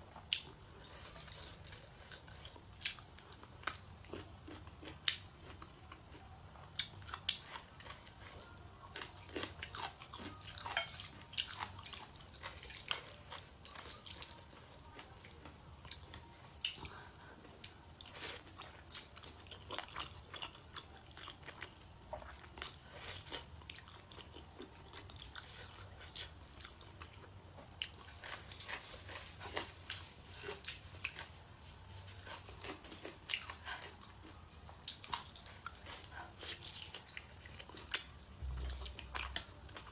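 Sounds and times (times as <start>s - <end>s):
person chewing noodles: 0.2s - 39.9s.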